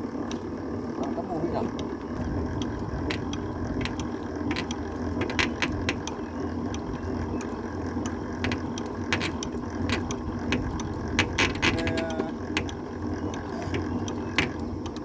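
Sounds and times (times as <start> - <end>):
crank gearing rumble: 0.0 - 15.0
honey extractor spinning: 0.0 - 15.0.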